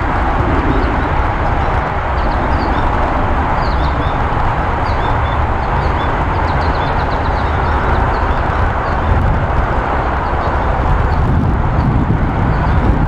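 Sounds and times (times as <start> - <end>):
roar of vehicle noise: 0.0 - 13.0
small birds chirping: 0.0 - 13.0.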